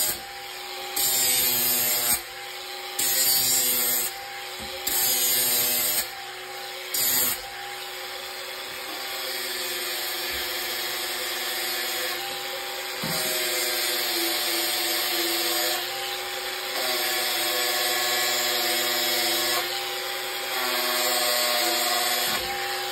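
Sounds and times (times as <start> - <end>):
angle grinder cutting plastic pipe: 0.0 - 22.9.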